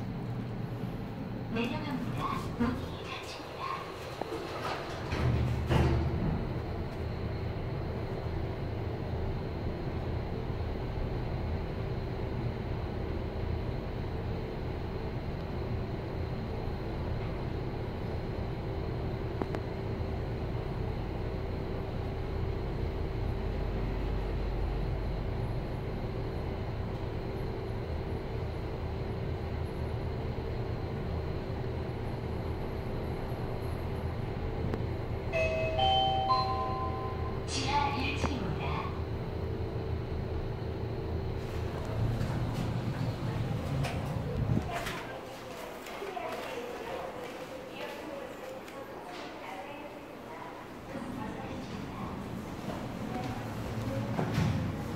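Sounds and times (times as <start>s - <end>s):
constant hum tone: 0.0s - 54.9s
elevator ride rumble: 0.0s - 54.9s.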